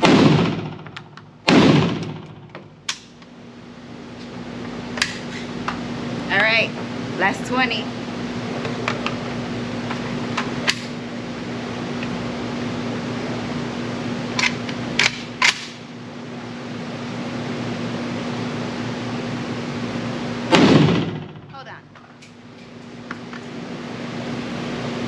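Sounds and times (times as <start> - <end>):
fan-like hum: 0.0 - 25.0.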